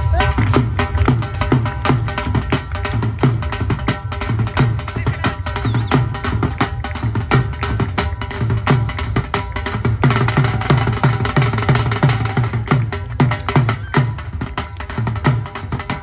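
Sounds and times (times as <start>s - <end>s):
barrel drum beat: 0.0s - 16.0s.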